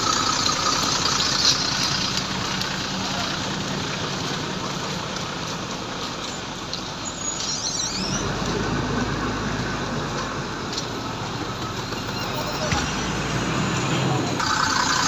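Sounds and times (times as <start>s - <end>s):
diesel bus engines idling: 0.0s - 15.0s.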